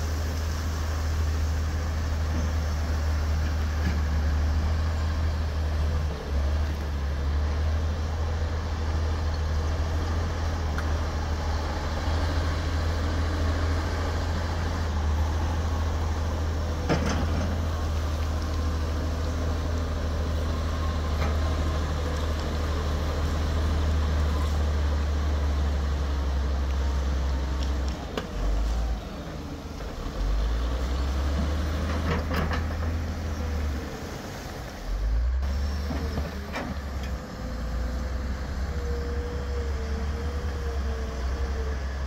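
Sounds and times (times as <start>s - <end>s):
heavy machinery diesel engines: 0.0s - 42.0s.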